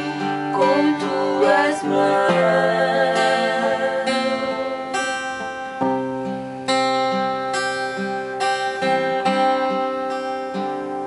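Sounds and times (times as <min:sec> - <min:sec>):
acoustic guitar chords ringing: 0:00.0 - 0:11.0.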